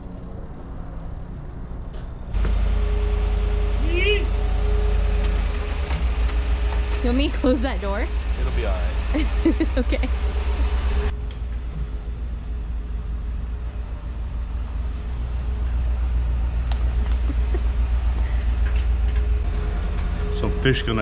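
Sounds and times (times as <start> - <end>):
pickup truck engine rumbling: 0.0 - 21.0.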